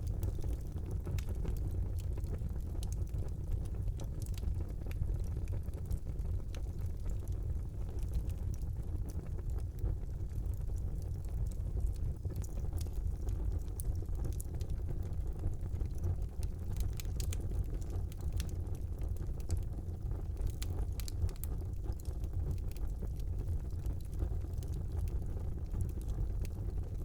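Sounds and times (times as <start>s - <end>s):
fire flames rumbling: 0.0s - 27.0s
wood fire crackling and popping: 0.0s - 27.0s.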